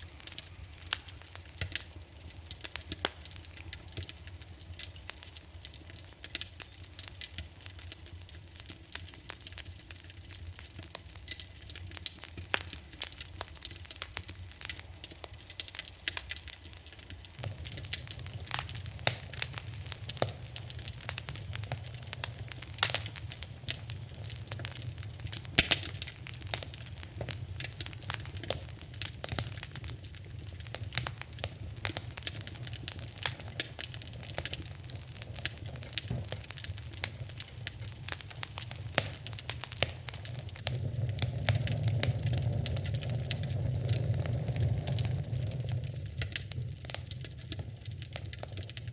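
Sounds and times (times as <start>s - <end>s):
low rumble of flames: 0.0s - 48.9s
wood fire crackling: 0.0s - 48.9s.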